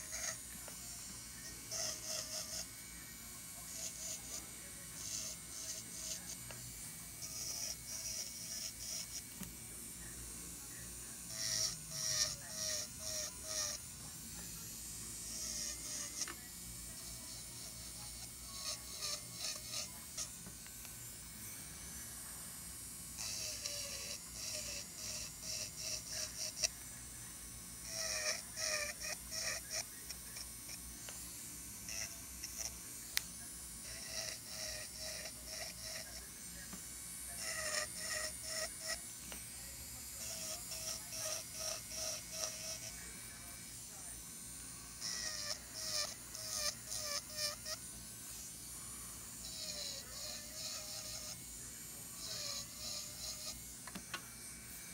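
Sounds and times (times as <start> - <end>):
electric nail drill grinding: 0.0 - 54.9.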